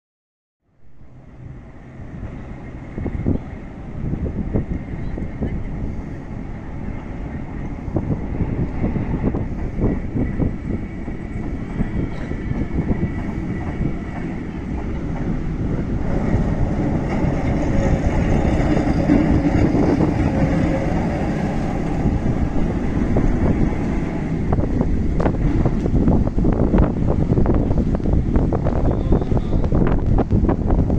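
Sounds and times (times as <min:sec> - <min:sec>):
tram wheels running on rails: 0:01.2 - 0:30.9.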